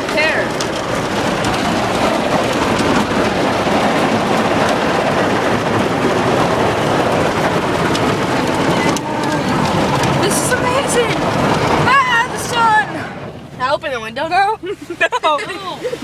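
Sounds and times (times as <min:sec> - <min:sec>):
car wash water spray: 0:00.0 - 0:16.0.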